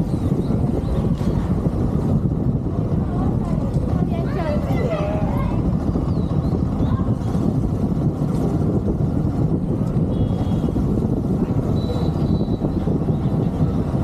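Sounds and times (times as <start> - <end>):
motorcycle engine rumble: 0.0 - 14.0
wind and road noise: 0.0 - 14.0.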